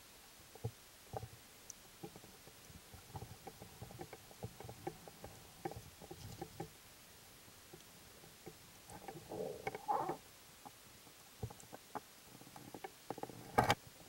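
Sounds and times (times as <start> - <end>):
low hiss: 0.0 - 14.0
soft underwater clicks and knocks: 0.5 - 6.8, 7.7 - 10.8, 11.4 - 13.8.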